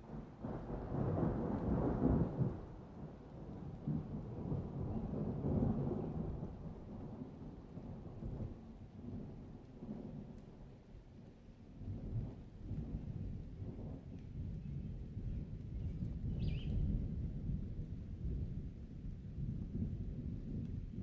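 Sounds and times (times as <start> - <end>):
rolling thunder: 0.1 - 10.4, 11.8 - 21.0.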